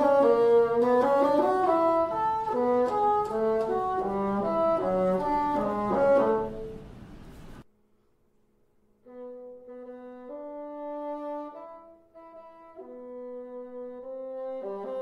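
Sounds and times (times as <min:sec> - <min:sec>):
solo bassoon playing: 0:00.0 - 0:07.0, 0:09.0 - 0:15.0.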